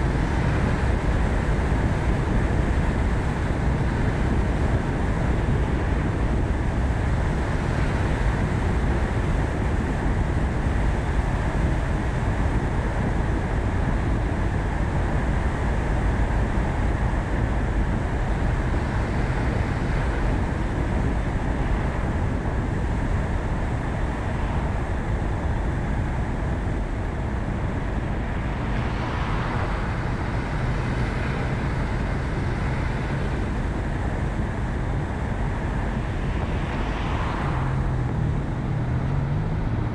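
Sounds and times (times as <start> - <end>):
road and engine noise: 0.0 - 39.9.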